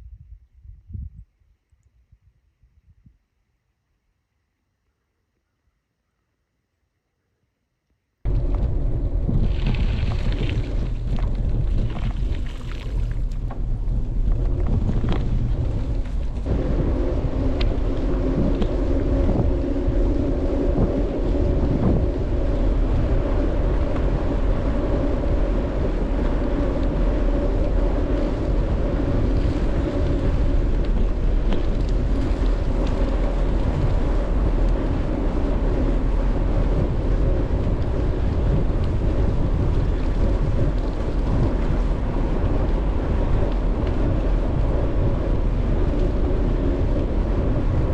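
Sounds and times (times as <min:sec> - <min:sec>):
wind on microphone: 0:00.0 - 0:03.3, 0:08.2 - 0:47.9
bicycle tyres humming on pavement: 0:08.3 - 0:47.9.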